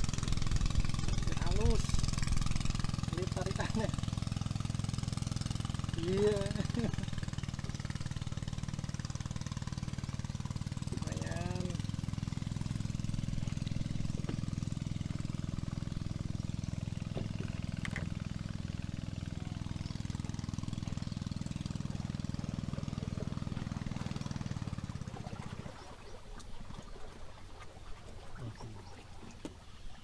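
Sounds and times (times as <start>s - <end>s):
small boat engine running: 0.0s - 30.0s.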